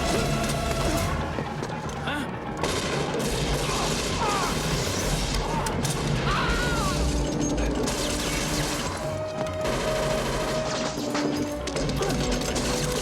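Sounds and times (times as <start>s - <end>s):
action film music score: 0.0s - 13.0s.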